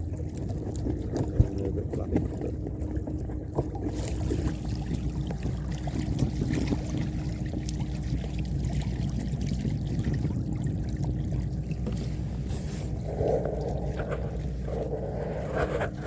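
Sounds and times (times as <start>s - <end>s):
small water splashes: 0.0s - 16.0s
water washing against a hull: 0.0s - 16.0s.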